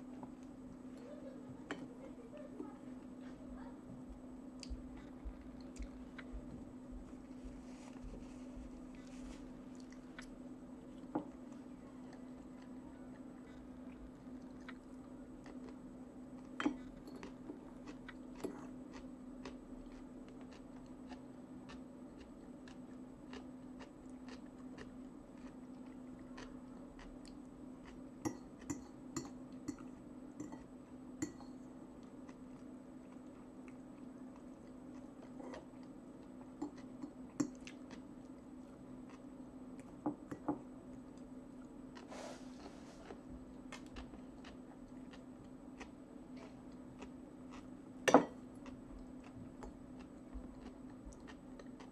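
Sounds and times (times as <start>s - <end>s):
steady low hum: 0.0s - 51.9s
chewing: 4.6s - 51.9s.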